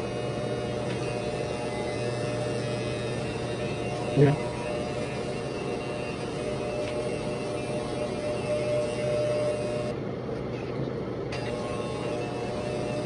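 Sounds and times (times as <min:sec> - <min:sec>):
electric hair clippers buzzing: 0:00.0 - 0:10.0, 0:11.3 - 0:13.0.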